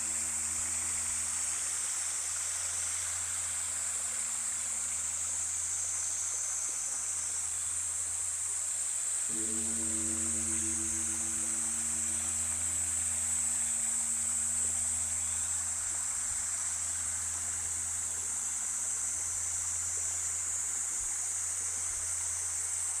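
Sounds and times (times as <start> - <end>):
temple bell hum: 0.0 - 6.3, 9.3 - 22.9
steady hiss: 0.0 - 23.0.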